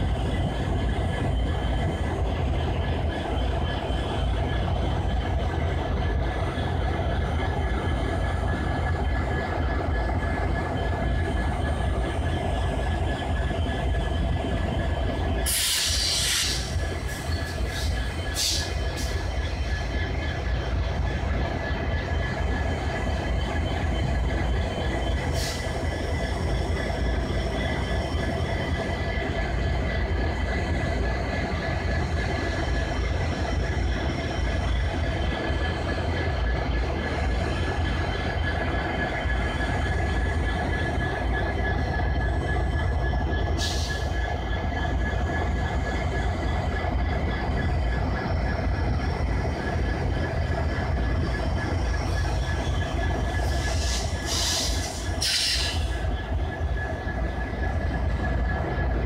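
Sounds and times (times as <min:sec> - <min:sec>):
diesel locomotive engine rumble: 0:00.0 - 0:59.0
engine whine: 0:00.0 - 0:59.0.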